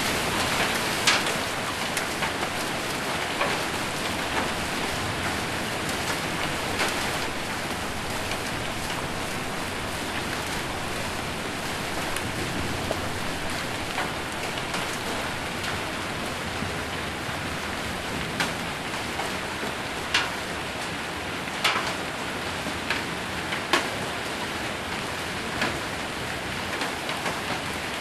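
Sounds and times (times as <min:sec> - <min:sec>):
heavy rain and hail on roof: 0:00.0 - 0:28.0.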